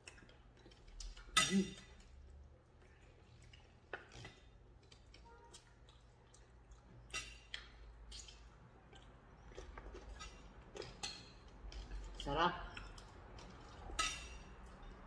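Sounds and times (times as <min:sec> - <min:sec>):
wet eating clicks and smacks: 0:00.0 - 0:14.0.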